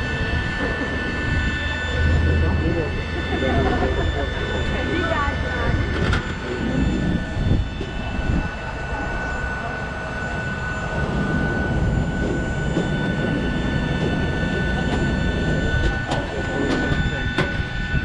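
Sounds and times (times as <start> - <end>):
auxiliary power unit whine: 0.0 - 18.0.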